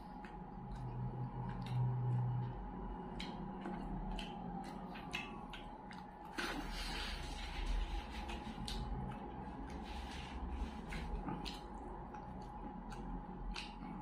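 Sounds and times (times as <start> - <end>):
faint steady hum: 0.0 - 14.0
wet chewing and mouth smacks: 0.0 - 14.0.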